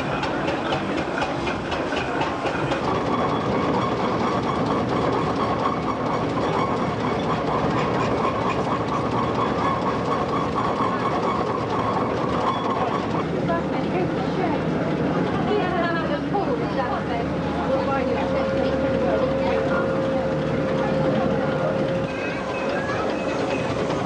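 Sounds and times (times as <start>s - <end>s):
steam engine clatter: 0.0s - 24.0s
steam engine running: 0.0s - 24.0s.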